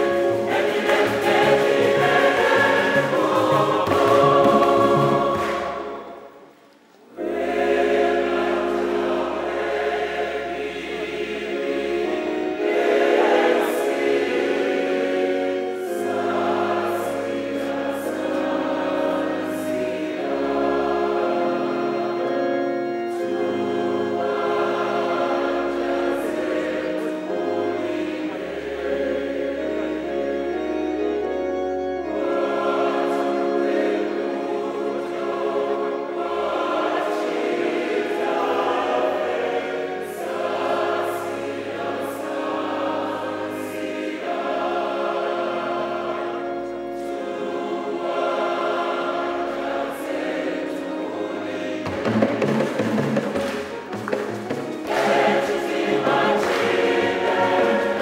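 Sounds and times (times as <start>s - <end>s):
keyboard sustained bass notes: 0.0s - 6.4s, 7.1s - 58.0s
choir singing a hymn: 0.0s - 58.0s.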